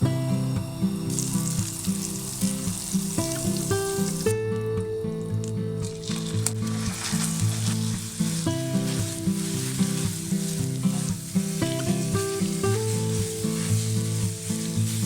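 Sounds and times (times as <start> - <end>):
background music: 0.0 - 15.0
food sizzling in a frying pan: 1.0 - 4.4, 5.5 - 15.0.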